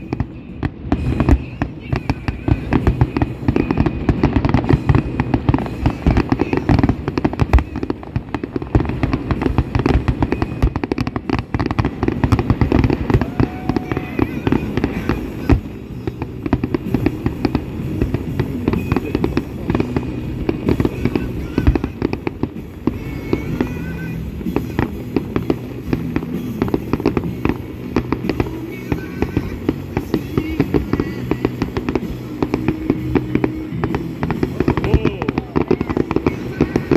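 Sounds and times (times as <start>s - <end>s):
fireworks bangs and crackles: 0.0s - 36.9s.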